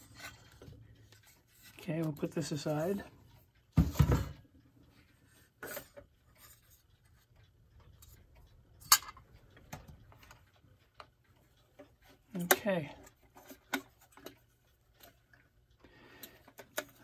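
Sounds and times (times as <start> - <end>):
clock parts clicking and knocking: 0.0 - 17.0.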